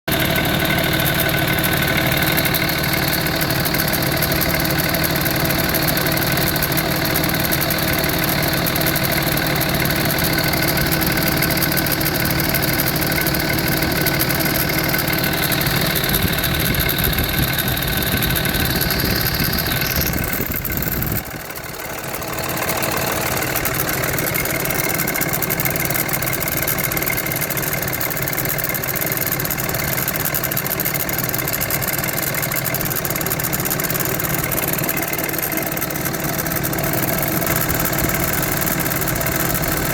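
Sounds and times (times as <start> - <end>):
diesel engine idling: 0.1 - 39.9
engine rattle: 0.1 - 39.9.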